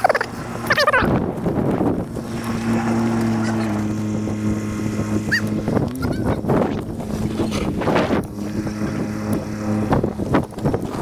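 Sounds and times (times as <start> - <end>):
vehicle engine idling: 0.0 - 11.0
wind buffeting microphone: 0.0 - 11.0.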